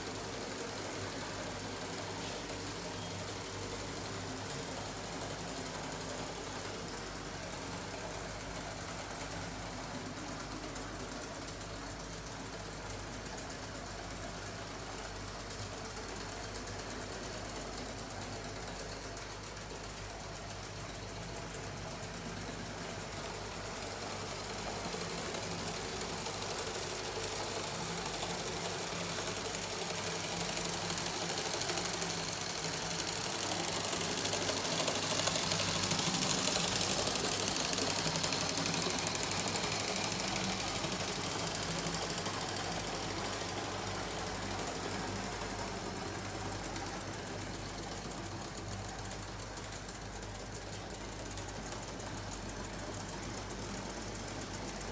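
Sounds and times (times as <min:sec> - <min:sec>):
steam engine ticking and clatter: 0:00.0 - 0:54.9.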